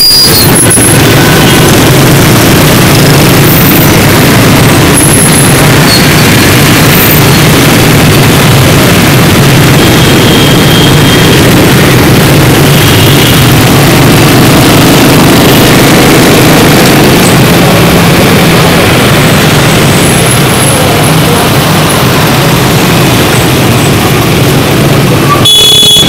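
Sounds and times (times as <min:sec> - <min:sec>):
motorcycle engine drone: 0:00.0 - 0:26.0
rush of traffic noise: 0:00.0 - 0:26.0.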